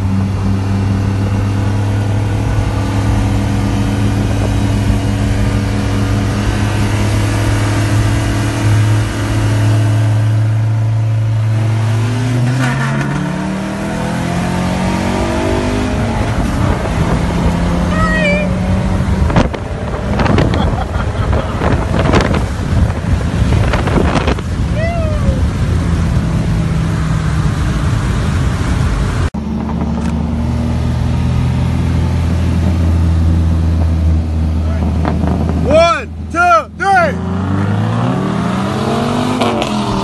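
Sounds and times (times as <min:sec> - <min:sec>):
car engine droning and revving: 0:00.0 - 0:40.0.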